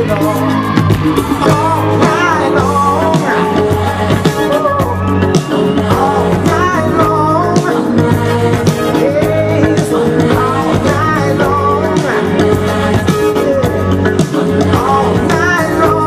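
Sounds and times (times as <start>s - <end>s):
person singing over beat: 0.0s - 16.0s.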